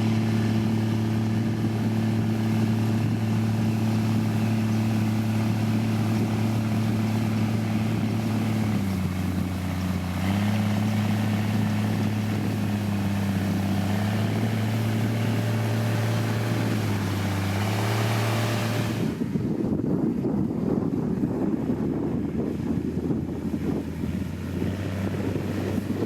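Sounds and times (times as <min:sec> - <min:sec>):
heavy machinery diesel engine running: 0:00.0 - 0:26.0.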